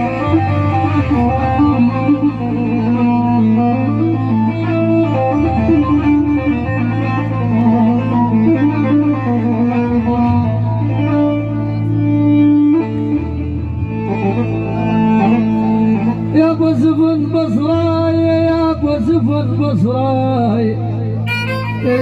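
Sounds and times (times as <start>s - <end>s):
electronic keyboard melody: 0.0s - 22.0s.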